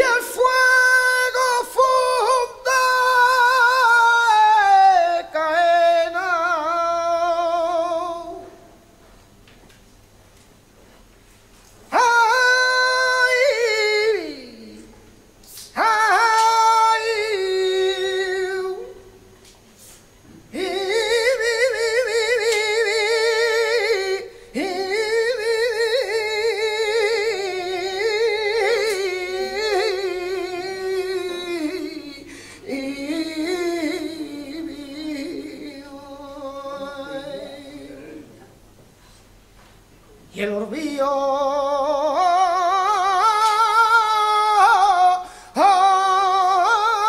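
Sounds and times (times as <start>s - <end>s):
man singing unaccompanied: 0.0s - 8.7s, 11.9s - 15.0s, 15.6s - 19.2s, 20.5s - 38.4s, 40.3s - 47.0s.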